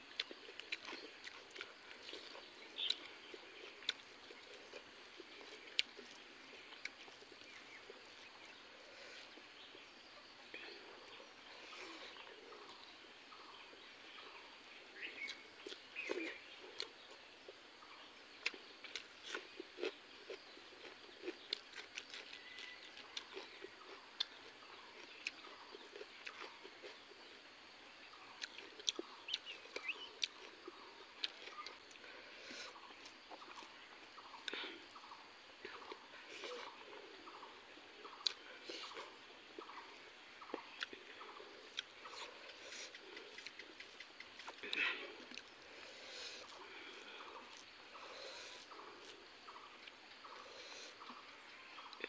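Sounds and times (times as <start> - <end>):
chewing with lip smacks: 0.0 - 8.6, 15.0 - 27.4, 28.1 - 52.0.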